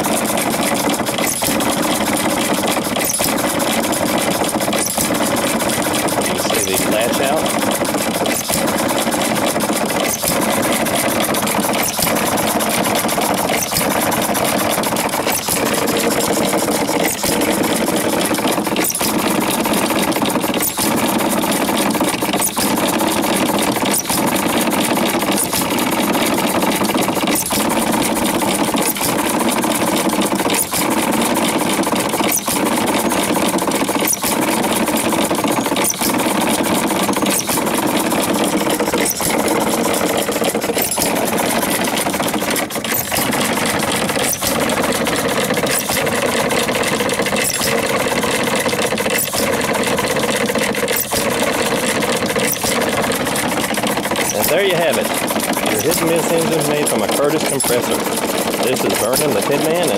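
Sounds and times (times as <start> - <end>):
engine mechanical clatter: 0.0 - 59.9.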